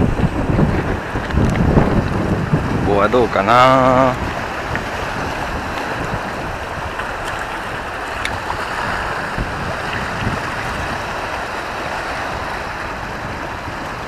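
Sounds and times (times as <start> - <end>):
sea waves washing ashore: 0.0 - 14.0
wind buffeting microphone: 0.0 - 14.0.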